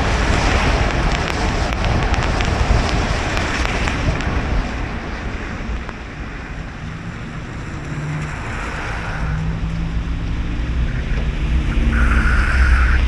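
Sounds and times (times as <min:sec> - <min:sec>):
low engine hum: 0:00.0 - 0:13.0
low road rumble: 0:00.0 - 0:13.0
tyres hissing on wet pavement: 0:00.0 - 0:13.0.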